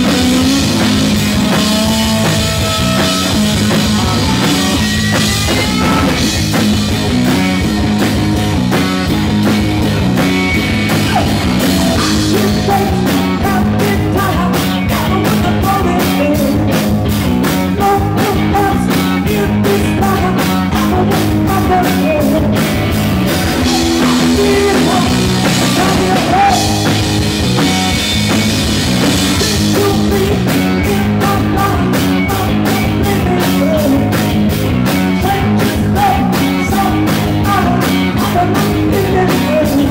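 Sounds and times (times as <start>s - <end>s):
drum kit with cymbals: 0.0s - 39.9s
electric guitar: 0.0s - 39.9s.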